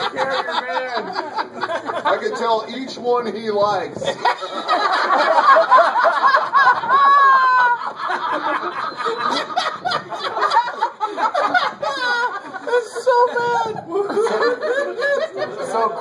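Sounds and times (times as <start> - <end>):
people laughing loudly: 0.0 - 3.0, 4.0 - 16.0.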